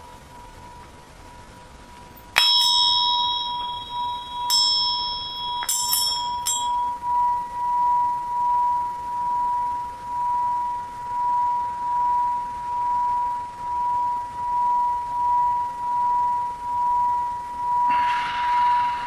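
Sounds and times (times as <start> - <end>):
singing bowl ringing: 2.1 - 19.0
bells struck: 2.2 - 19.0.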